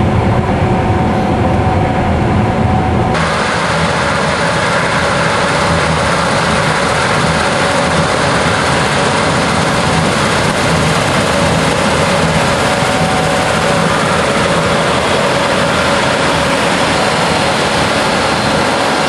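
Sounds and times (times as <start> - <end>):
combine harvester running: 0.0 - 19.0
faint steady whine: 0.0 - 19.0.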